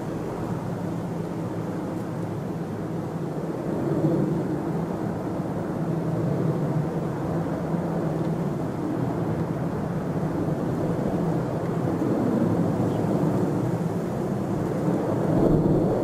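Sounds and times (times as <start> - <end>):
distant jet engines rumbling: 0.0 - 16.0.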